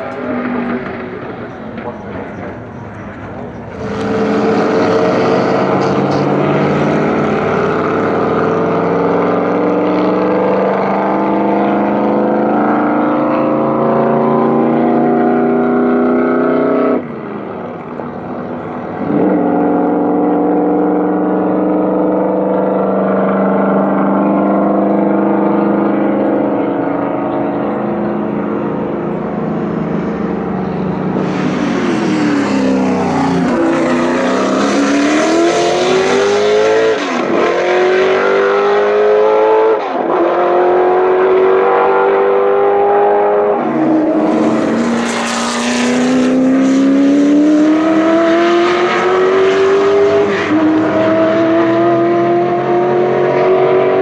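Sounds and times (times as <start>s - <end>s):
racing car engines running hard: 0.0s - 54.0s.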